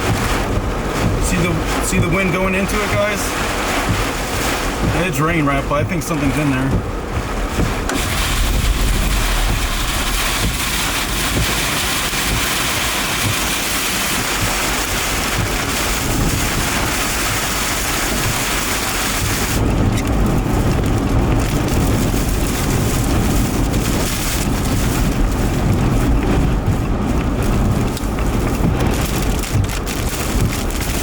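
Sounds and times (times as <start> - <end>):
deep rumble: 0.0 - 31.0
heavy rain: 0.0 - 31.0
wind gusting on microphone: 0.0 - 31.0.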